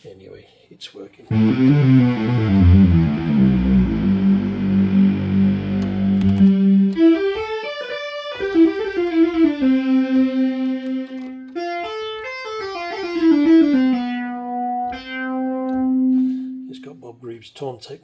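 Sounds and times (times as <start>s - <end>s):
synthesizer melody: 1.3s - 16.8s.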